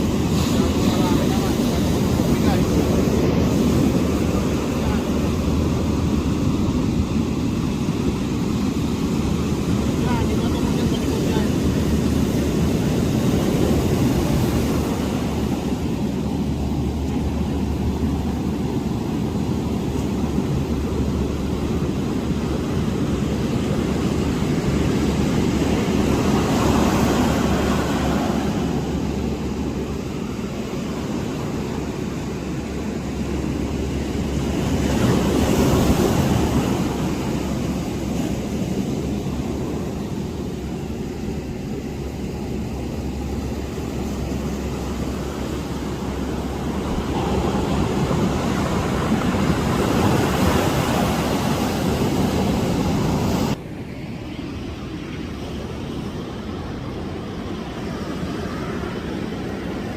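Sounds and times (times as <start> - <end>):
ocean waves breaking: 0.0 - 59.9
wind rumble on microphone: 0.0 - 59.9.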